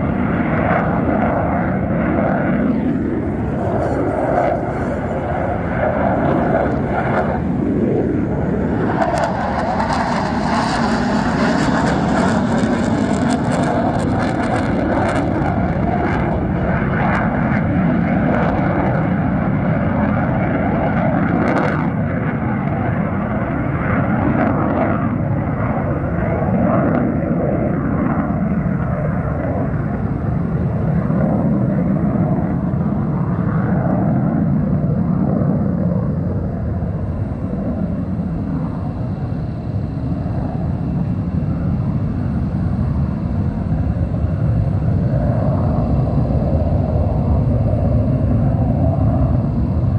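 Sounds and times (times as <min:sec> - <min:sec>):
jet engines roaring at takeoff: 0:00.0 - 0:49.9.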